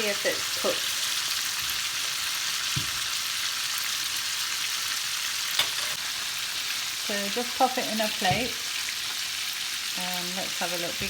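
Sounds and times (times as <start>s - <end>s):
meat frying in hot oil: 0.0s - 11.0s.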